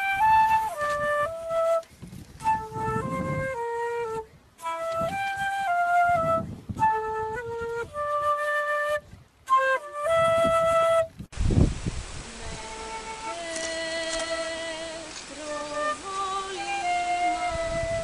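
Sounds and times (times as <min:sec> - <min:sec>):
flute playing slow melody: 0:00.0 - 0:11.3, 0:12.3 - 0:18.0.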